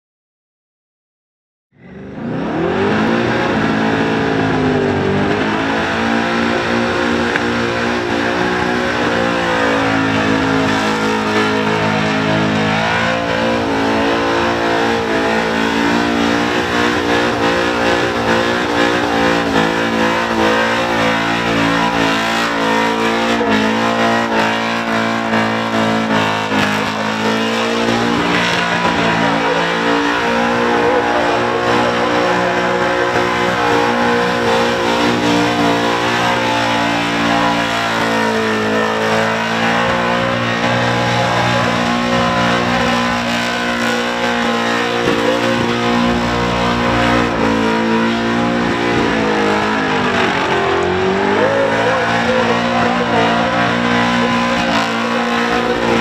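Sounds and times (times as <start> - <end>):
engine at high revs: 1.8 - 56.0.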